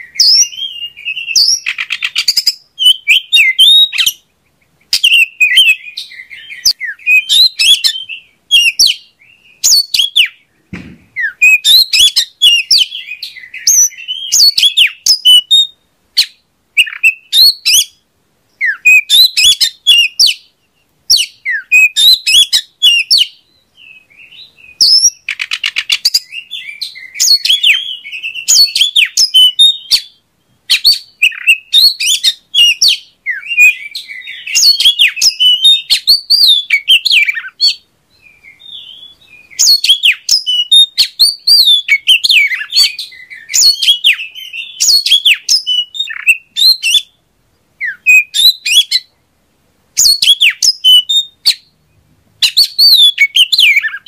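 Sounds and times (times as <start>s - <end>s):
songbird whistles and chirps: 0.0s - 49.3s, 50.0s - 54.0s.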